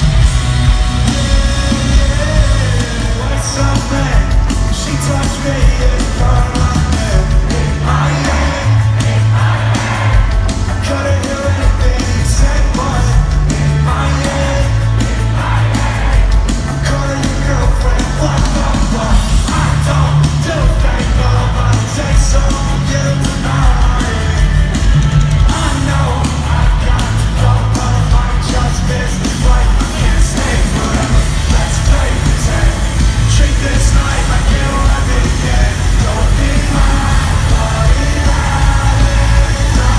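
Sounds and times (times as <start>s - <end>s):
live rock music: 0.0s - 39.9s
person singing: 1.0s - 24.8s, 25.4s - 39.9s.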